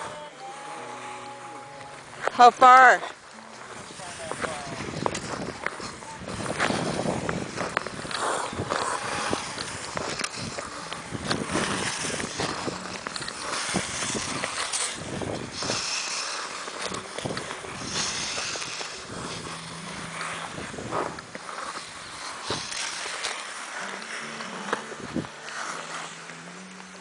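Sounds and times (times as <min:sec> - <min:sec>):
ice skate blades scraping: 0:00.0 - 0:27.0
skate blades gliding hiss: 0:03.5 - 0:27.0.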